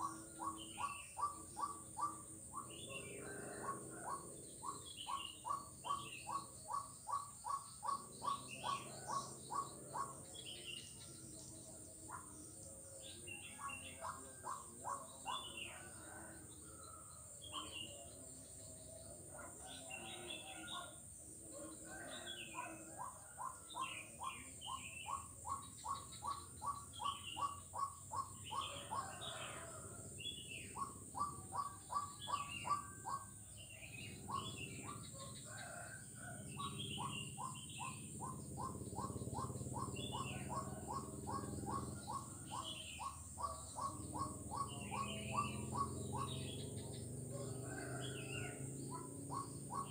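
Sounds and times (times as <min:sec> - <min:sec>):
frog calling in rapid pulses: 0:00.0 - 0:12.5, 0:22.2 - 0:49.9
high-pitched insect hum: 0:00.0 - 0:49.9.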